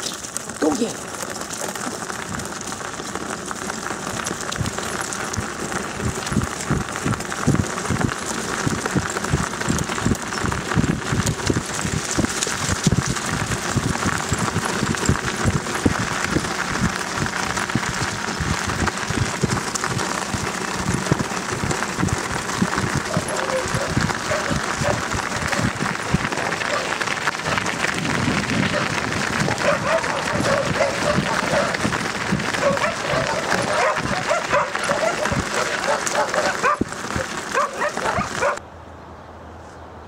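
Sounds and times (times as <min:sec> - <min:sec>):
wheels crunching over gravel: 0:00.0 - 0:38.7.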